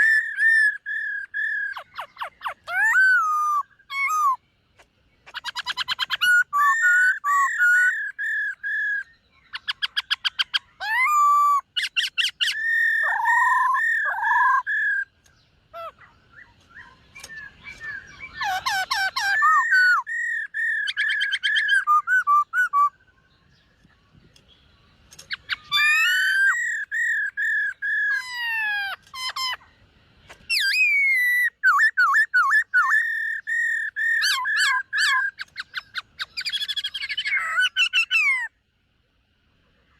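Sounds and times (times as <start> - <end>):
bird whistled song and trills: 0.0 - 39.9.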